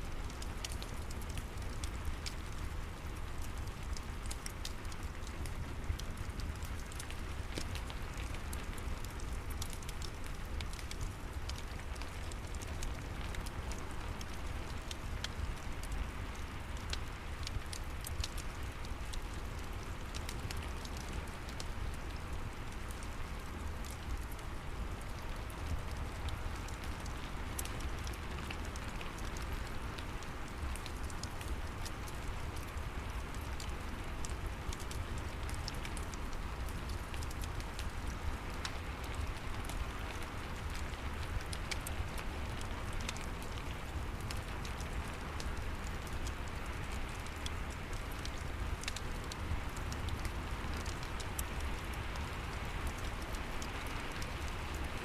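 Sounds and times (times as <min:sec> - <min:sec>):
steady rain: 0:00.0 - 0:55.0
fireplace crackling: 0:00.1 - 0:55.0.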